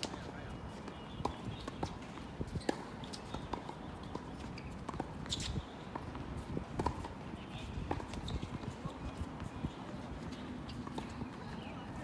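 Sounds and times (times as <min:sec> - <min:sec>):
footsteps on court: 0:00.0 - 0:12.0.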